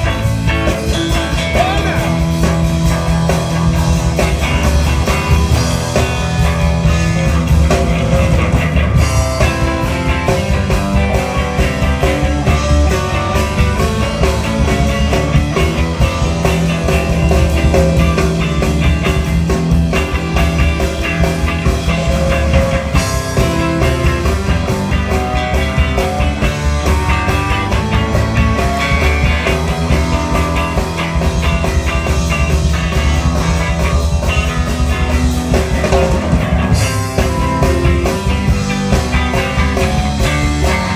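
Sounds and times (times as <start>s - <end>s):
blues-rock band playing: 0.0s - 40.9s
electric guitar picking notes: 0.0s - 40.9s.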